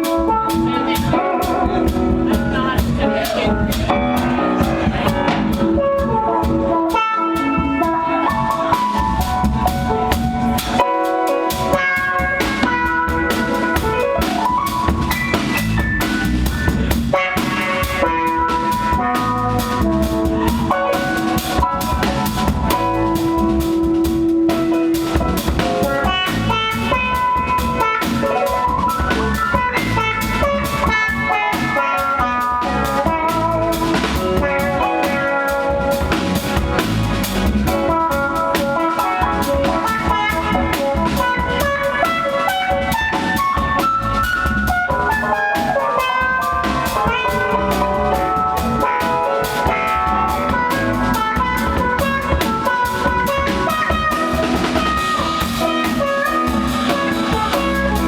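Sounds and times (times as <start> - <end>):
bass: 0.0 - 58.0
drum kit: 0.0 - 58.0
sustained guitar notes: 0.0 - 58.0.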